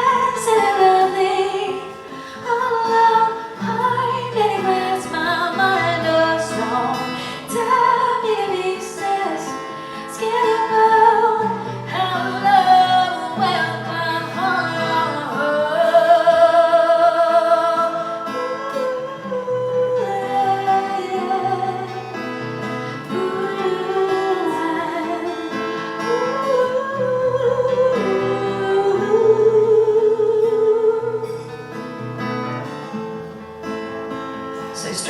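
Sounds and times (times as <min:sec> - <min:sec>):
person singing: 0:00.0 - 0:22.2, 0:22.8 - 0:31.5
strummed acoustic guitar: 0:00.0 - 0:35.0.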